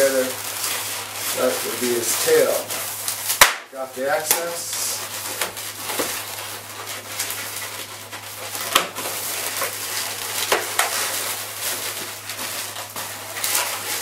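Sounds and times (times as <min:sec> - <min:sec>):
balloons rubbing and squeaking: 0:00.0 - 0:14.0.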